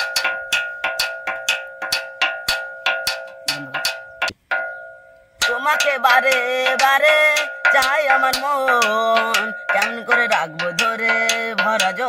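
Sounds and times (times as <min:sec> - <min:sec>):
bell-like percussion strikes: 0:00.0 - 0:12.0.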